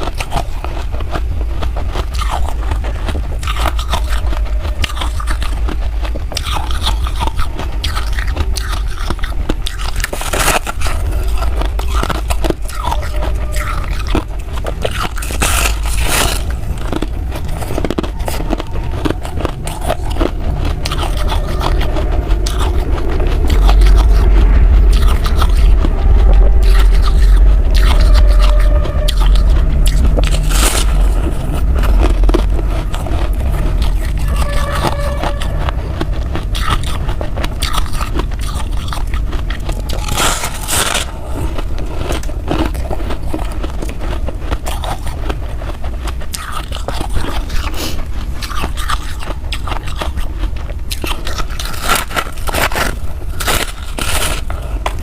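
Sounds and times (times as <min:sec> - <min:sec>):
deep rumble: 0:00.0 - 0:55.0
ice being chewed: 0:00.0 - 0:55.0.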